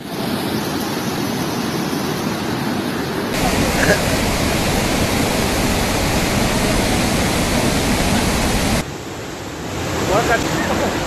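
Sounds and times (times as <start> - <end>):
flooded river rushing: 0.1 - 11.0.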